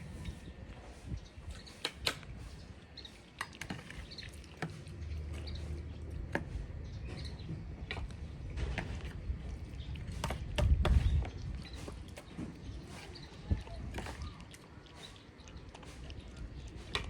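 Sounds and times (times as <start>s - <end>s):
cats lapping and chewing food: 0.0s - 17.0s.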